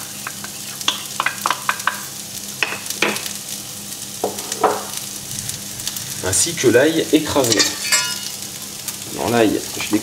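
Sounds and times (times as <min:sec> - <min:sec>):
food sizzling in a frying pan: 0:00.0 - 0:10.0
fat crackling and popping: 0:00.2 - 0:10.0.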